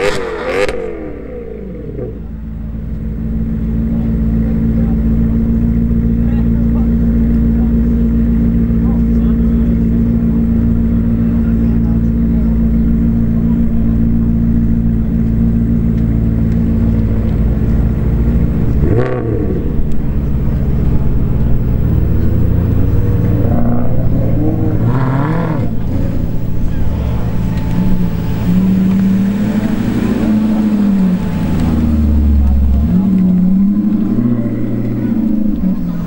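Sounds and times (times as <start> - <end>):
car engines idling and revving: 0.0 - 36.0.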